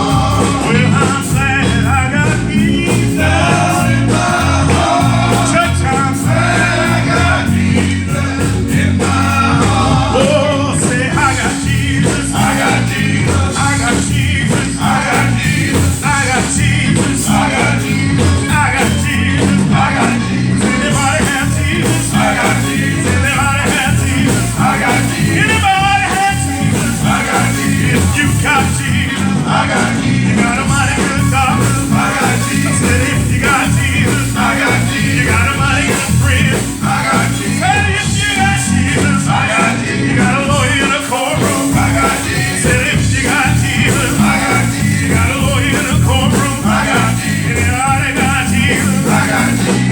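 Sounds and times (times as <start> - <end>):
church band drums and bass: 0.0 - 49.9
people singing: 0.0 - 49.9.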